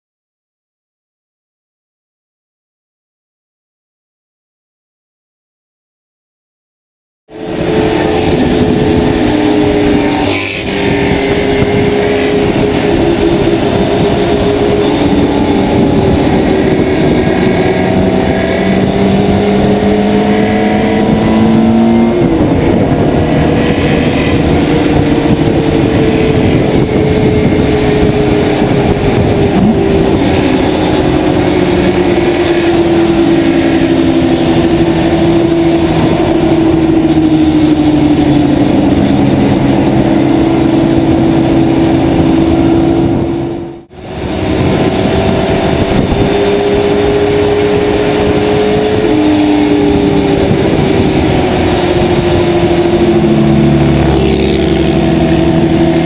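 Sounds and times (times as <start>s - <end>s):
engine pulling hard: 7.3s - 56.0s
wind and road noise: 7.3s - 56.0s.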